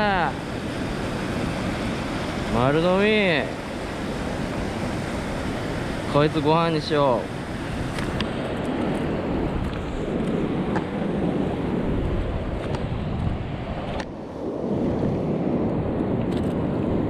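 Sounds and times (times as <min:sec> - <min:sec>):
sea waves: 0:00.0 - 0:15.4
wind noise on microphone: 0:00.0 - 0:17.0.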